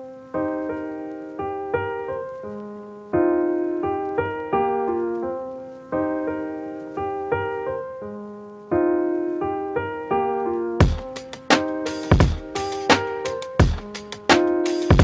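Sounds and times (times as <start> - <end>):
looping piano-like music: 0.0 - 15.0.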